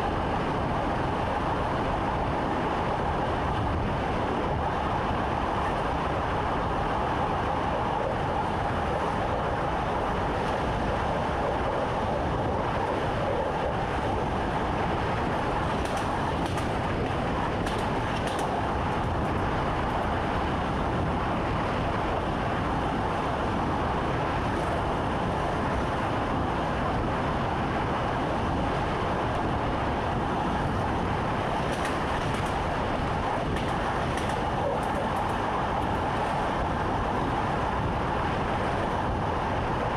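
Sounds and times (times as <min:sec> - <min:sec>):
electric train running: 0:00.0 - 0:39.9.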